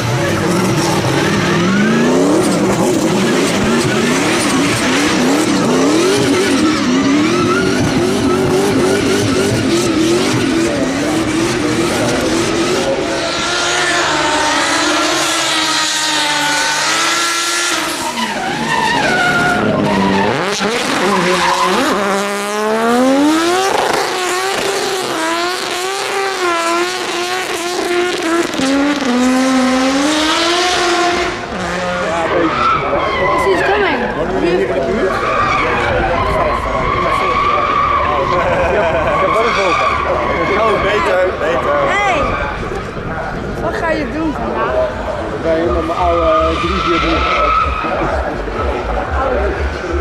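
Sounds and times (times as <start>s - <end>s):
racing car engine revving: 0.0s - 50.0s
tyres skidding and squealing: 0.0s - 50.0s.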